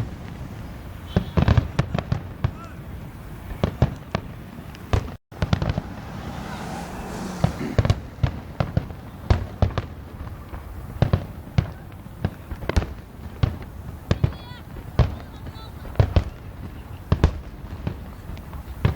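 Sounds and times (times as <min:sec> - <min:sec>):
fireworks bursting bangs: 0:00.0 - 0:18.9.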